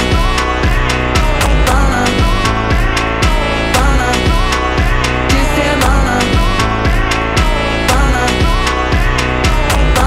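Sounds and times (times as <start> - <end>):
bass drum hits: 0.0 - 10.0
pop instrumental backing: 0.0 - 10.0.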